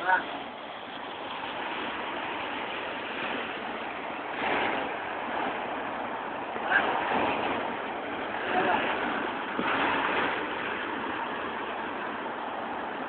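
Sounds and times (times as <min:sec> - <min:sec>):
wind and rain rushing: 0:00.0 - 0:13.0.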